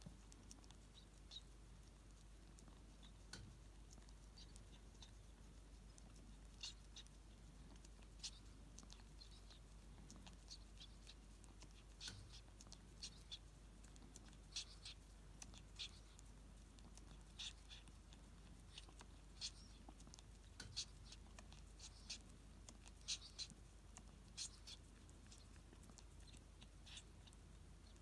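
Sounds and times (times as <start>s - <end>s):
animal licking and eating: 0.0s - 28.0s.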